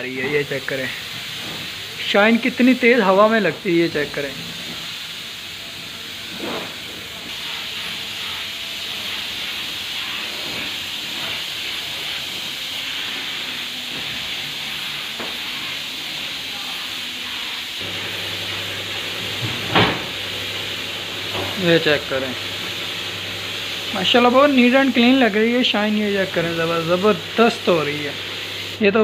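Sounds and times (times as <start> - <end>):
spray gun hissing: 0.4 - 29.0.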